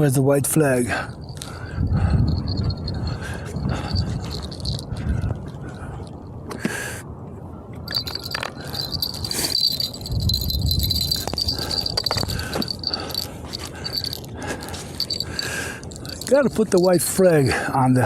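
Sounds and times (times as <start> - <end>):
small metal bell jingling: 1.1 - 6.2, 7.9 - 17.4.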